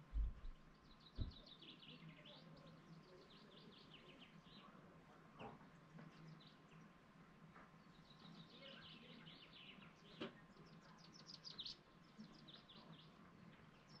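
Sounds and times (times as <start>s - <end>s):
faint songbird chirps: 0.0s - 14.0s.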